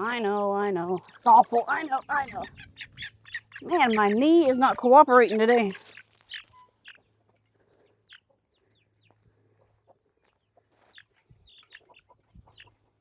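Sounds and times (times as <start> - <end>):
chicken clucks and chirps: 0.8 - 13.0.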